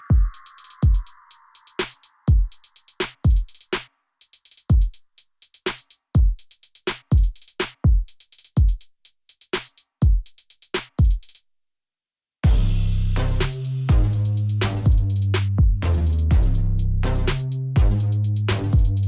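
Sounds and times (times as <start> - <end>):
drum machine beat: 0.0 - 11.4, 12.4 - 19.0.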